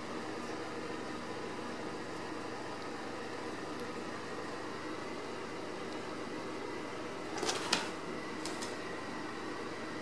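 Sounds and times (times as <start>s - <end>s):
steady fan noise: 0.0s - 10.0s.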